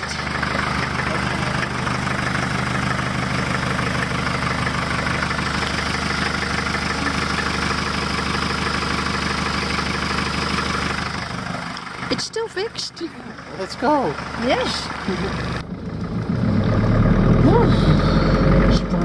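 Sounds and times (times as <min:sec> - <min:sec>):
van engine idling at exhaust: 0:00.0 - 0:19.0.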